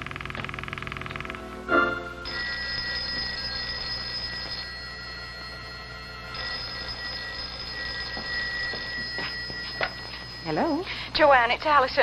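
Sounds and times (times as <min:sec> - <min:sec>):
telephone bell ringing: 0:01.7 - 0:11.6.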